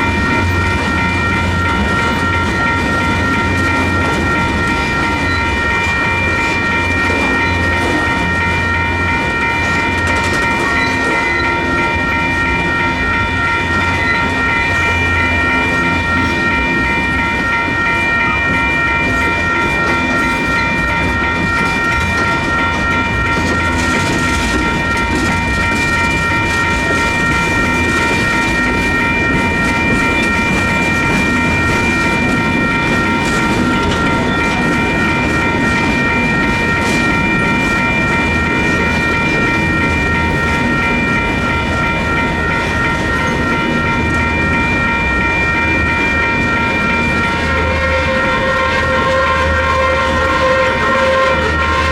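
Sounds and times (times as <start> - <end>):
crossing bells ringing: 0.0 - 51.9
train wheels rumbling on rails: 0.0 - 51.9.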